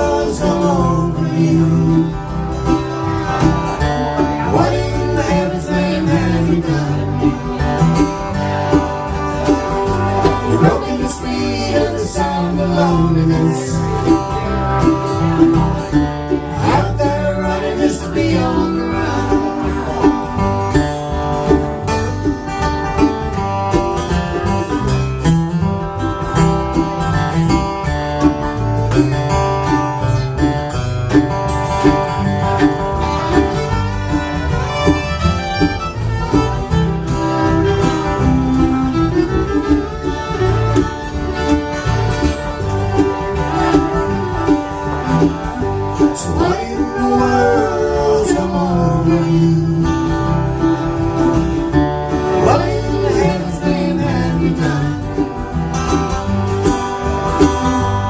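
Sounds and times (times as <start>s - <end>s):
acoustic string band playing: 0.0s - 58.0s.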